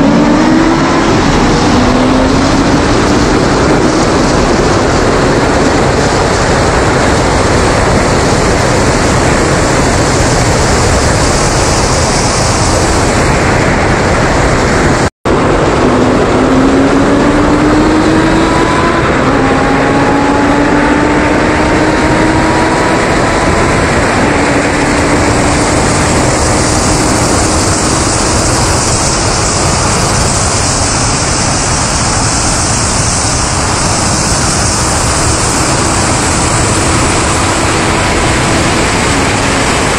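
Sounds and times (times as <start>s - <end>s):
car engine revving through gears: 0.0s - 13.6s, 15.3s - 39.9s
road roar: 0.0s - 39.9s
wind rush: 0.0s - 39.9s.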